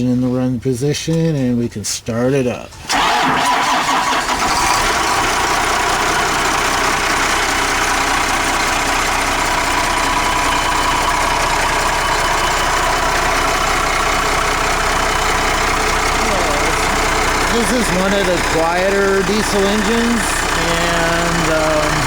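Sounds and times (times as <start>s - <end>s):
diesel bus engine idling: 2.8s - 22.0s.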